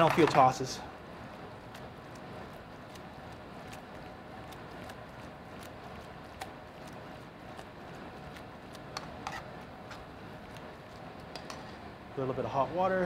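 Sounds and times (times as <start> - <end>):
steady kitchen hiss: 0.0 - 13.0.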